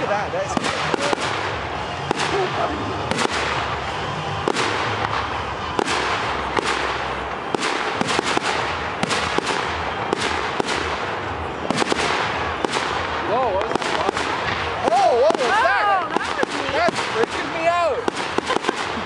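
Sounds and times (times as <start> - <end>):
continuous crackling hiss: 0.0 - 19.0.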